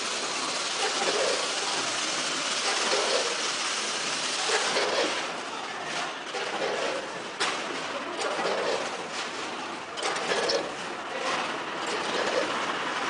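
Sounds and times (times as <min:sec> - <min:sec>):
packing machine running: 0:00.0 - 0:13.0.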